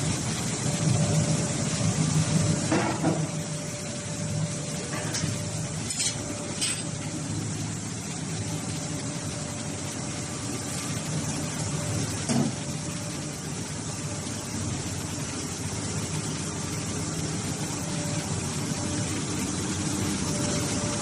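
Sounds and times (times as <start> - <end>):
hydraulic pump humming: 0.0 - 21.0.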